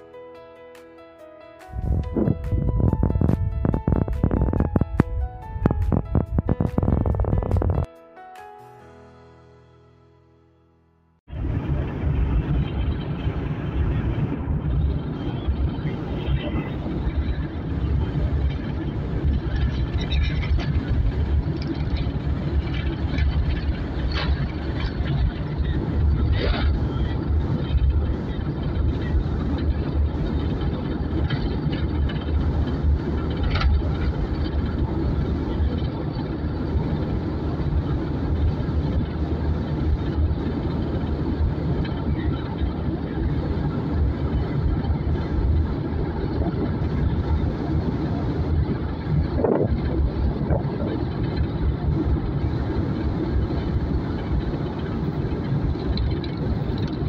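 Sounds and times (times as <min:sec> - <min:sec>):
vehicle engine drone: 0:00.0 - 0:57.0
tyre and wind noise: 0:01.8 - 0:07.9, 0:11.3 - 0:57.0.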